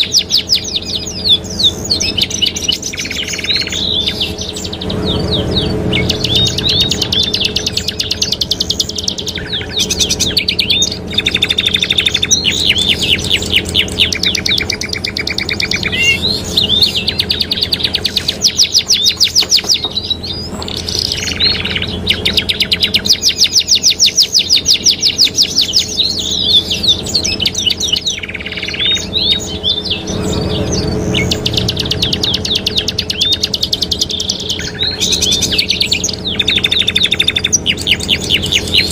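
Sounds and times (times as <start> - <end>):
canaries singing trills: 0.0 - 38.9.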